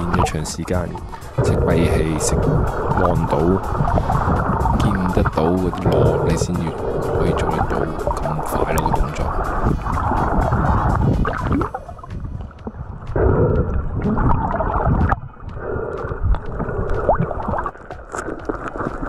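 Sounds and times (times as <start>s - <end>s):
water gurgling against housing: 0.0s - 19.0s.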